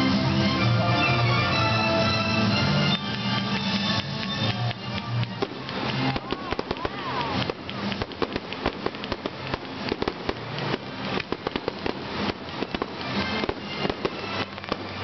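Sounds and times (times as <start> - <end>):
fireworks crackle: 0.0 - 15.0
fireworks bangs: 2.4 - 15.0.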